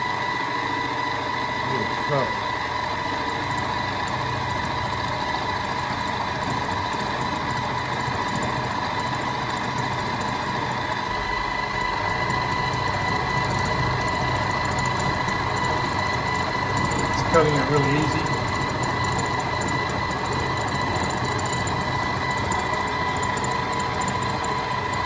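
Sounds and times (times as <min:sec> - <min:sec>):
milling machine spindle whine: 0:00.0 - 0:25.0.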